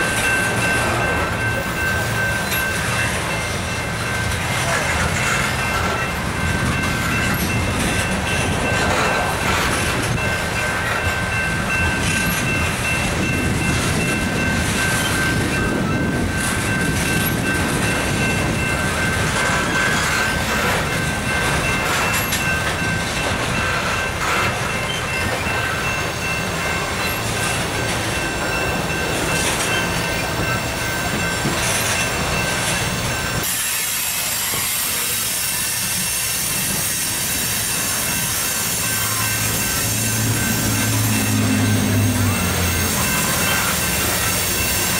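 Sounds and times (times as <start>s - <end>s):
train wheels rumbling and clattering: 0.0s - 44.9s.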